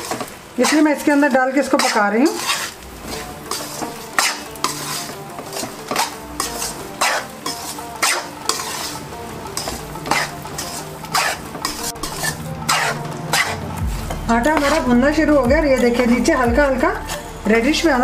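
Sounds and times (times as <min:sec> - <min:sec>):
flour sizzling in oil: 0:00.0 - 0:18.0
spatula scraping metal pan: 0:00.0 - 0:18.0.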